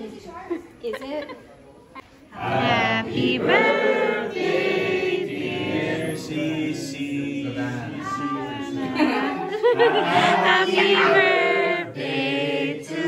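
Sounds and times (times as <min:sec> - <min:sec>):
group singing in unison: 0:02.3 - 0:13.0.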